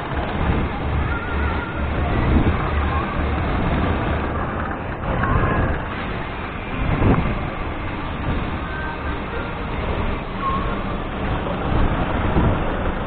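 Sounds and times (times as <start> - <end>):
road rumble during a ride: 0.0 - 13.0.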